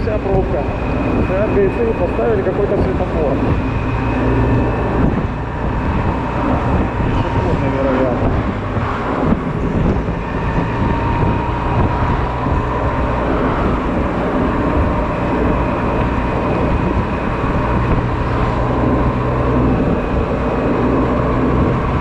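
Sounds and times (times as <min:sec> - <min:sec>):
road and wind rush: 0:00.0 - 0:22.0.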